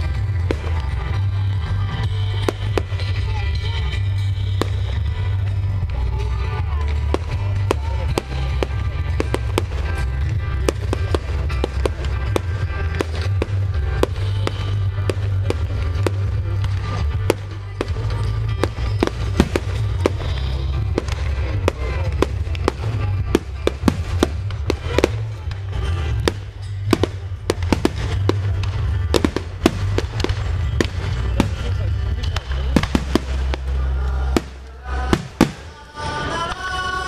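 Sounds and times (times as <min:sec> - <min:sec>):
fireworks cracking and banging: 0:00.0 - 0:36.6
music with heavy bass: 0:00.0 - 0:37.0.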